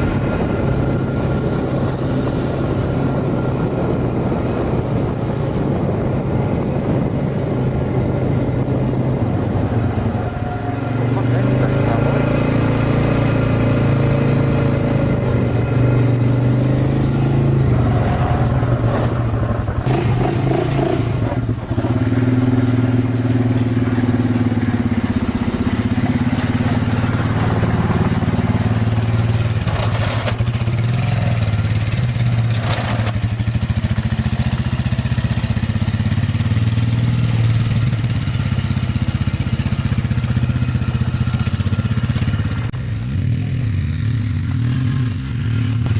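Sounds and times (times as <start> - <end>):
quad bike engine revving: 0.0 - 45.9.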